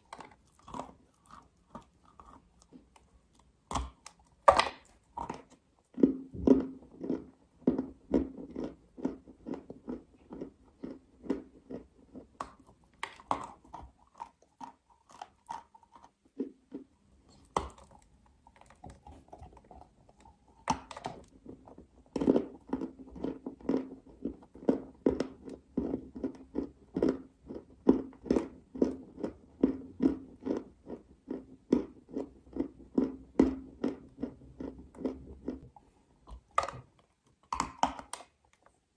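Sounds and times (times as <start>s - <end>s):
person chewing dry clay: 0.0s - 38.8s.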